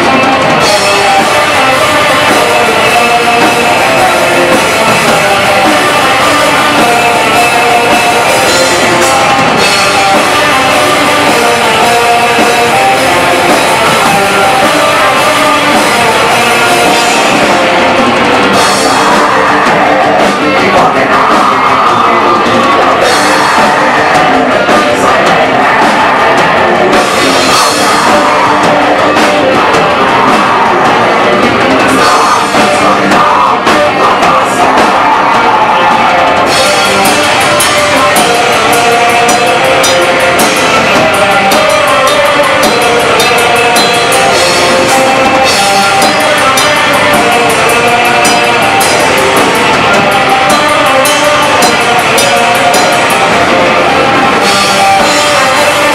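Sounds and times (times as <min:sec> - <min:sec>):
black metal band playing live: 0:00.0 - 0:55.9.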